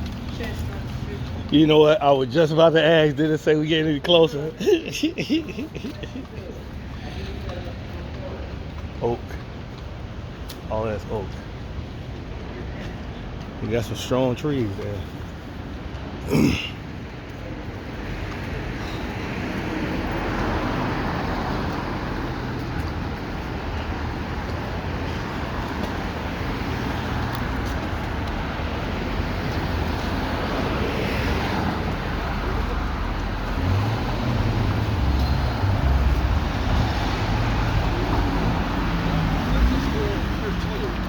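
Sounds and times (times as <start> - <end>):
passing road vehicles: 0.0 - 41.0.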